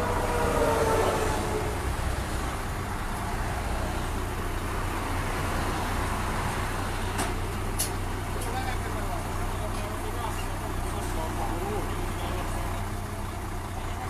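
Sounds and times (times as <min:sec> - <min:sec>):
heavy diesel engines humming: 0:00.0 - 0:14.0
road noise: 0:00.0 - 0:14.0.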